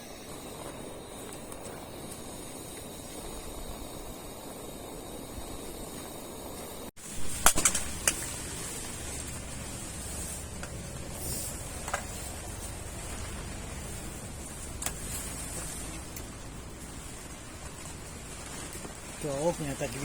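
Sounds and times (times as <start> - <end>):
low rustling hiss: 0.0 - 20.0
wood fire crackling and popping: 0.0 - 20.0.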